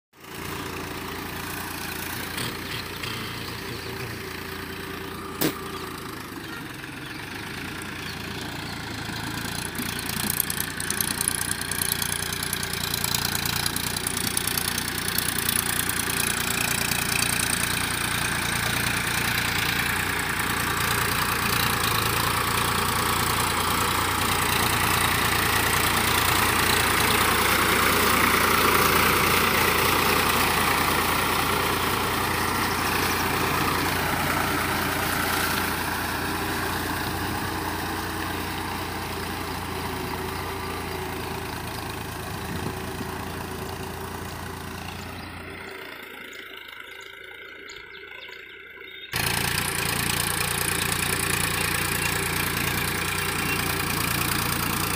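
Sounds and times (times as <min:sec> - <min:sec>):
tractor engine running: 0:00.2 - 0:54.9.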